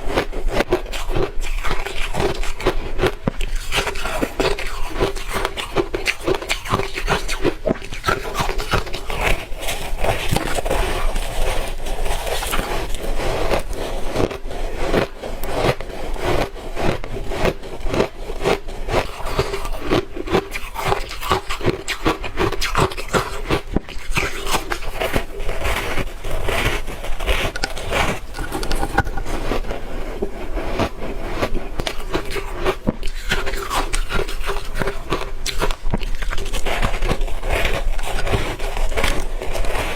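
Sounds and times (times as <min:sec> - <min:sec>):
ice being bitten and chewed: 0:00.0 - 0:39.9.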